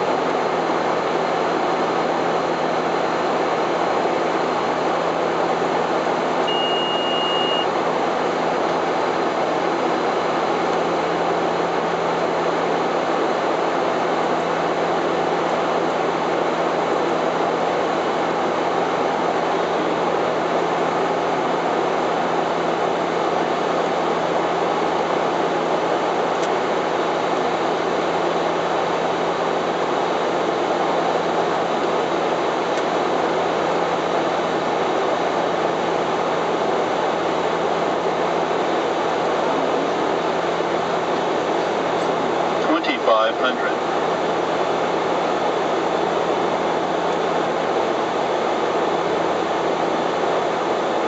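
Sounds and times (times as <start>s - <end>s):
turboprop engines droning: 0.0s - 51.0s.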